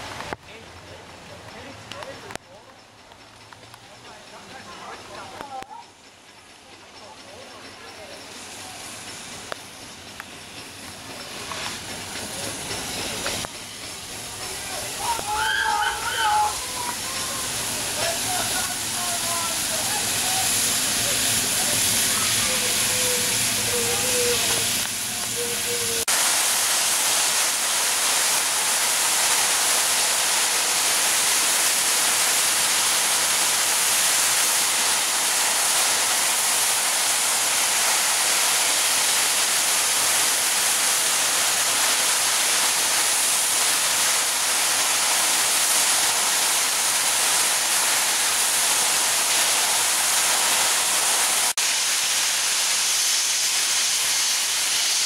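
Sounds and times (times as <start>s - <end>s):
steam locomotive blowing off steam: 0.0s - 55.0s.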